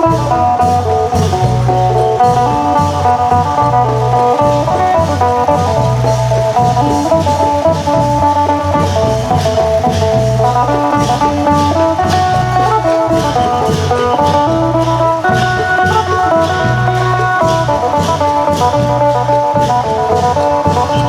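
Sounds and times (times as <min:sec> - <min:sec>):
long drums beating: 0:00.0 - 0:21.0
plucked lute melody: 0:00.0 - 0:21.0.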